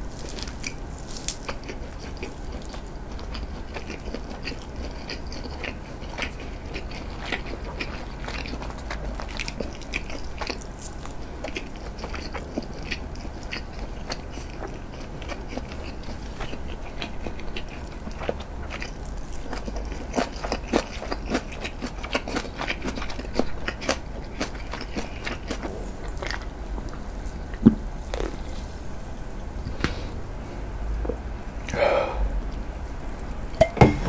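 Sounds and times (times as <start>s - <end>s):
close chewing with mouth clicks: 0.0s - 28.8s.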